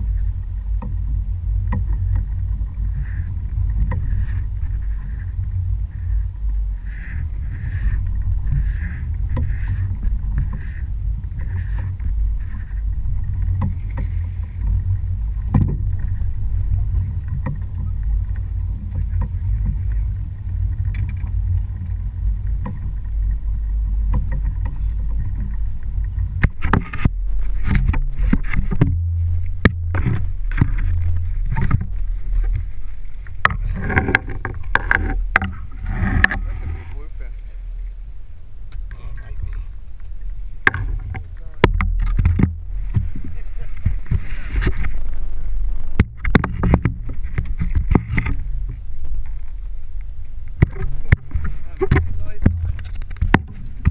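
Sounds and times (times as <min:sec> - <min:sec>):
water: 0:00.0 - 0:53.9
wind: 0:00.0 - 0:53.9.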